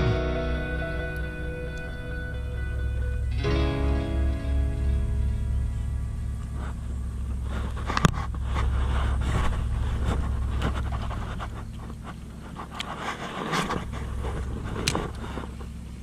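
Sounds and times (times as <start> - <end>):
fronds and grass rustling: 0.0 - 16.0
steady low rumble: 0.0 - 16.0.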